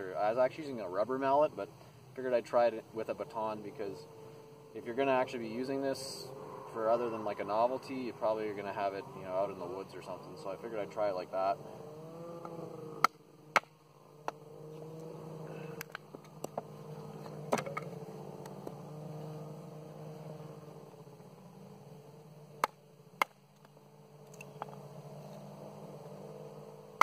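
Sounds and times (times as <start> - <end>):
steady low drone: 1.8 - 27.0.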